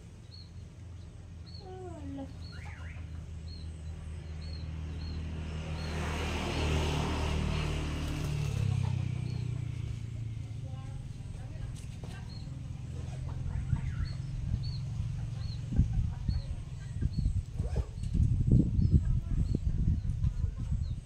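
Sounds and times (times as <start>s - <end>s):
bird chirping: 0.2s - 6.2s, 8.3s - 21.0s
vehicle passing: 1.9s - 21.0s.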